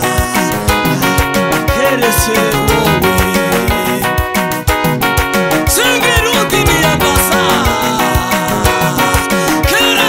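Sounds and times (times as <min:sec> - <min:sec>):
man singing gospel song: 0:00.0 - 0:04.6, 0:05.5 - 0:10.0
electronic keyboard: 0:00.0 - 0:10.0
quick drum beat: 0:00.0 - 0:10.0.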